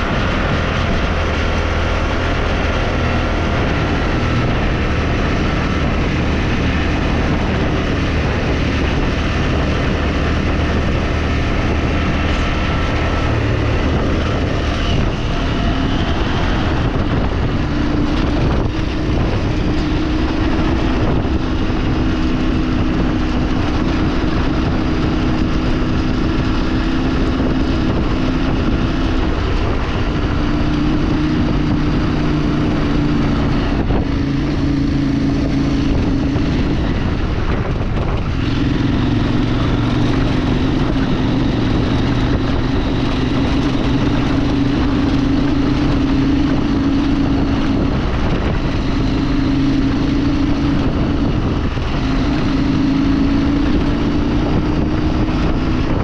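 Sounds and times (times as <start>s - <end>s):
road and wind noise: 0.0s - 56.0s
vehicle engine running: 0.0s - 56.0s.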